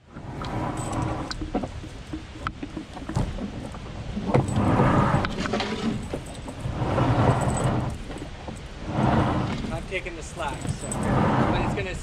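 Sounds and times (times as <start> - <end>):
canoe hull scraping on rock: 0.1 - 12.0.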